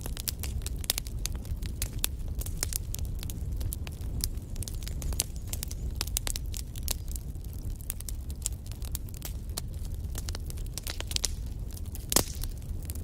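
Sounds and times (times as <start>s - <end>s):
fire flames rumbling: 0.0s - 13.0s
logs crackling and popping: 0.0s - 13.0s.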